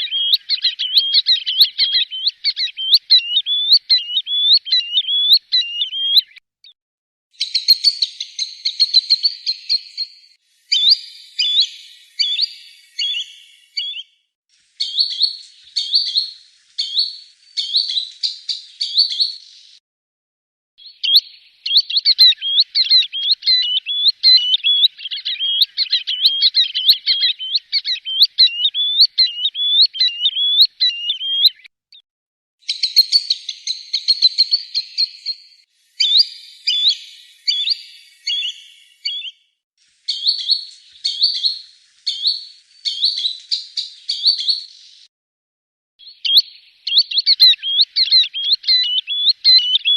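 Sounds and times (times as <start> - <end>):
bird whistling calls: 0.0 - 6.4, 7.4 - 14.2, 14.8 - 19.6, 20.8 - 31.7, 32.7 - 39.4, 40.1 - 45.1, 46.0 - 49.9.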